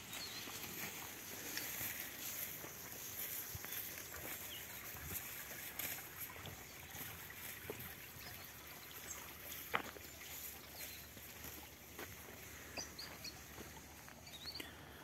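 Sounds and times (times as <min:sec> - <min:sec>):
footsteps on dry grass and dirt: 0:00.0 - 0:14.6.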